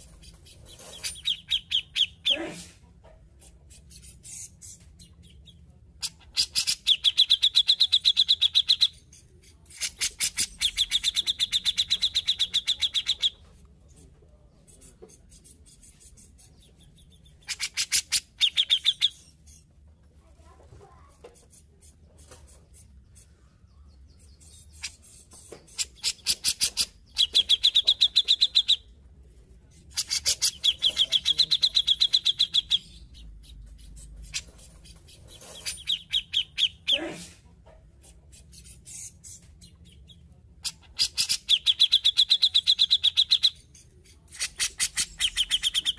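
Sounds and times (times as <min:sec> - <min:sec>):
bird chattering trills: 0:00.0 - 0:02.4, 0:03.7 - 0:13.5, 0:14.7 - 0:19.7, 0:21.6 - 0:29.0, 0:29.8 - 0:37.1, 0:38.3 - 0:45.9.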